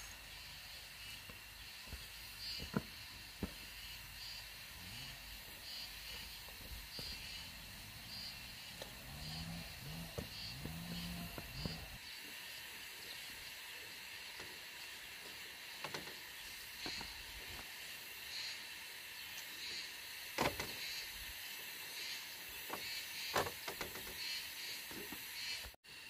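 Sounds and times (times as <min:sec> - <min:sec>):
steady high outdoor hiss: 0:00.0 - 0:26.0.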